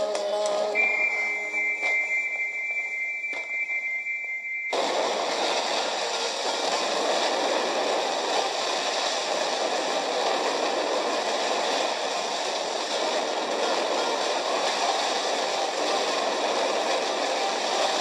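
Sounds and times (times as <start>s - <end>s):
fireworks barrage rushing: 0.8s - 18.0s.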